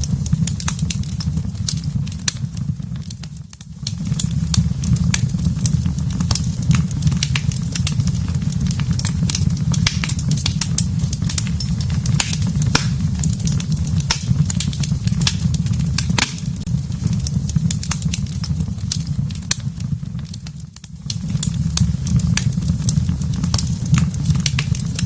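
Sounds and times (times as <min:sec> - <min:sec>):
fire low rumble: 0:00.0 - 0:25.0
wood fire crackling and popping: 0:00.0 - 0:25.0.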